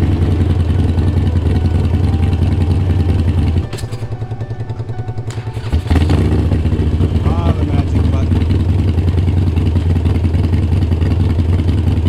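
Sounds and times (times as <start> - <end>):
motorcycle engine revving and idling: 0.0 - 12.0.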